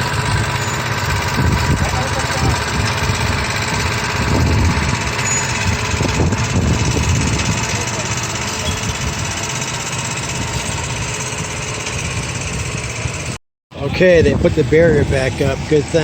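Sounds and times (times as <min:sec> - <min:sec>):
engine running: 0:00.0 - 0:16.0
wind rumbling on microphone: 0:00.0 - 0:16.0.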